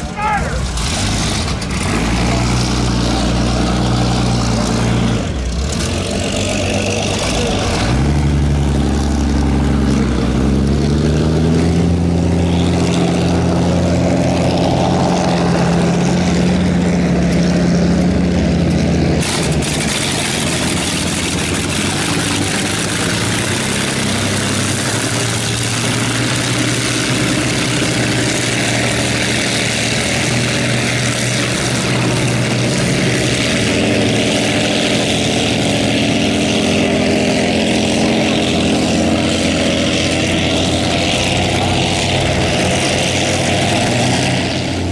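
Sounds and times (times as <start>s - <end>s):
aircraft engine running: 0.0s - 44.9s
engine and water rush: 0.0s - 44.9s.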